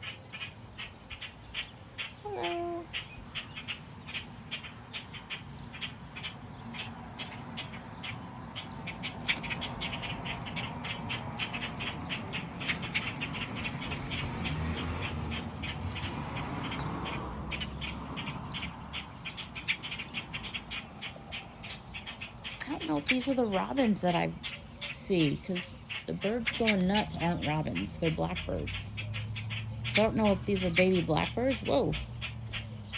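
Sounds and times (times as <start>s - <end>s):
blackbird alarm calls: 0.0s - 32.9s.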